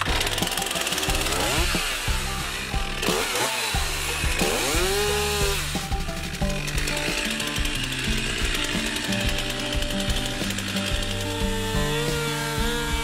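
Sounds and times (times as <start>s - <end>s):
background music: 0.0s - 13.0s
chainsaw cutting wood: 0.0s - 13.0s.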